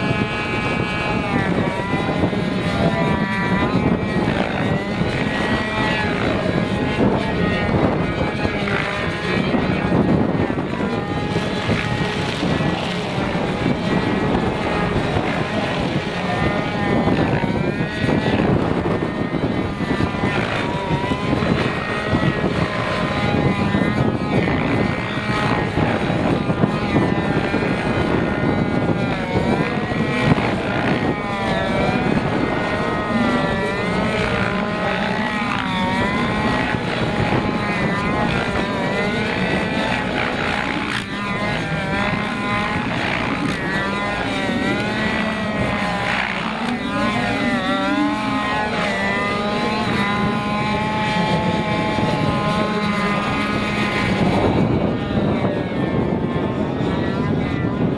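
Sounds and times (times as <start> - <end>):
model helicopter engine and rotor: 0.0 - 57.9.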